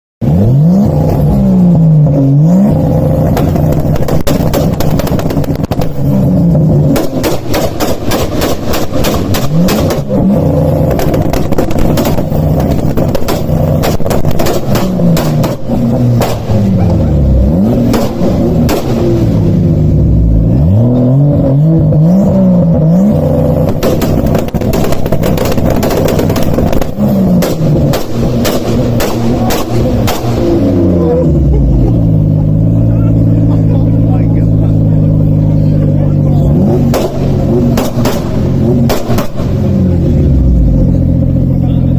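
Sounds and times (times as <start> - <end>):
car engines revving hard: 0.2 - 41.9
exhaust crackles and pops: 2.8 - 19.6, 23.1 - 41.8.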